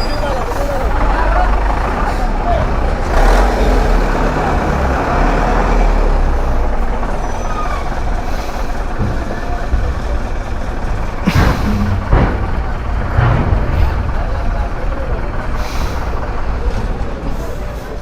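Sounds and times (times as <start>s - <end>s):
engine rumble: 0.0s - 18.0s
traffic: 0.0s - 18.0s.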